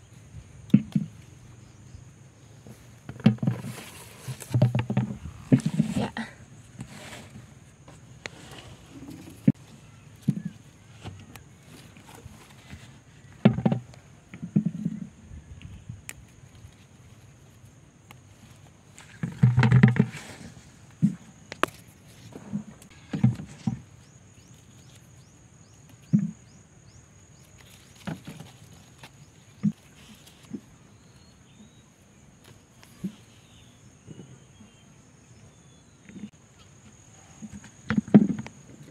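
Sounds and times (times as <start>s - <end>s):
rustling of plants: 2.4s - 26.6s, 27.2s - 34.3s.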